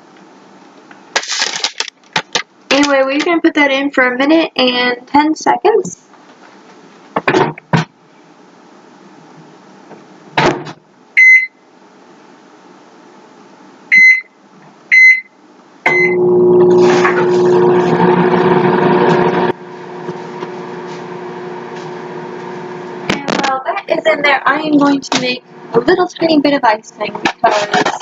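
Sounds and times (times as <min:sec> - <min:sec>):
microwave oven humming: 0:02.6 - 0:27.3.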